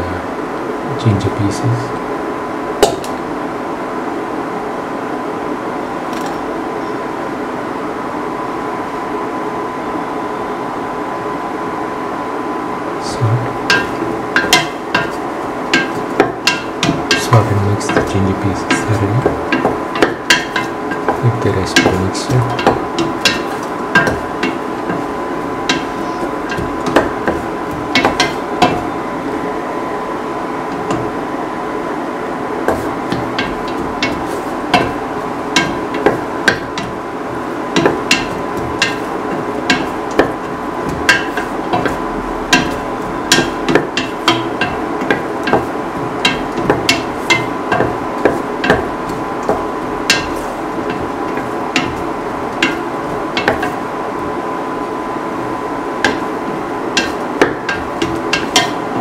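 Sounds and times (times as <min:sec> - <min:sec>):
steady background noise: 0:00.0 - 0:59.0.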